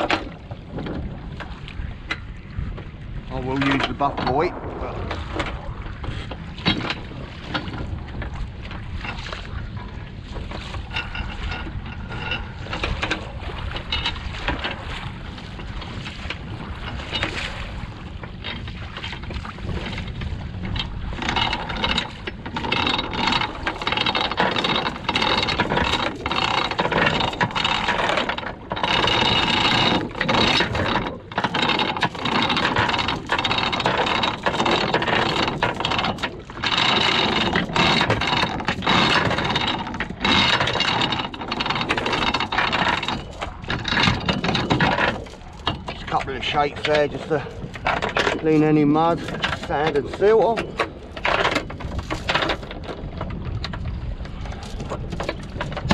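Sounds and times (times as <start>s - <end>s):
anchor chain rattling: 3.3s - 55.9s.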